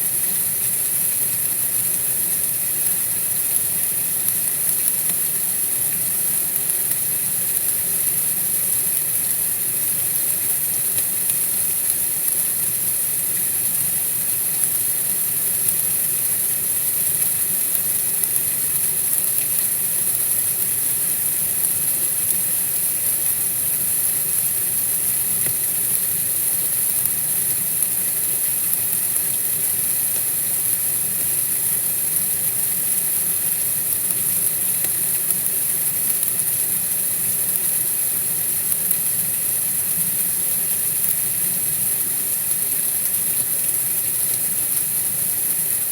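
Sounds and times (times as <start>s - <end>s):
white noise hiss: 0.0s - 45.9s.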